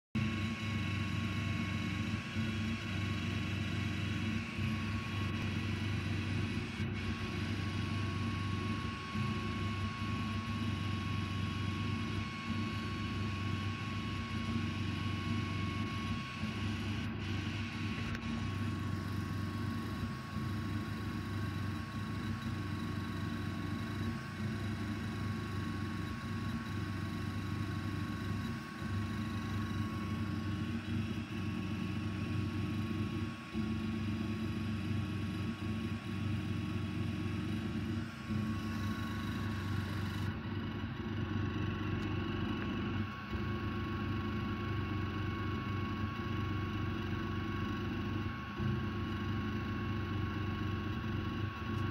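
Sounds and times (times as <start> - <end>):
laser engraver humming: 0.2 - 51.9.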